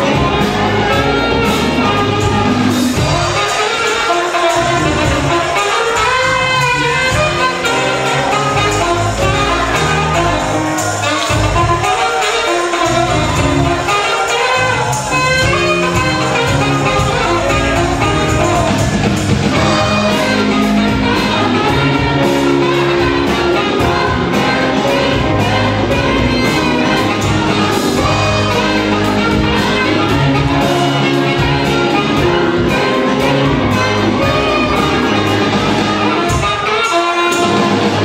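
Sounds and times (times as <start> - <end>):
electric bass: 0.0 - 12.0, 12.7 - 36.6, 37.3 - 38.0
drum kit: 0.0 - 38.0
electric guitar: 0.0 - 38.0
saxophone melody: 0.0 - 38.0.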